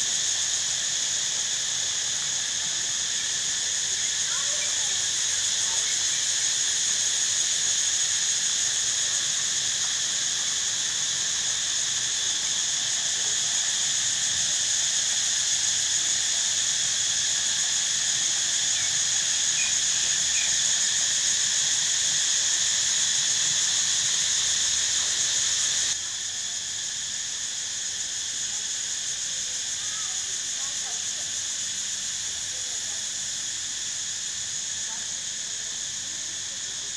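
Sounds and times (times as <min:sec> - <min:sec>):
cicadas droning: 0:00.0 - 0:36.9.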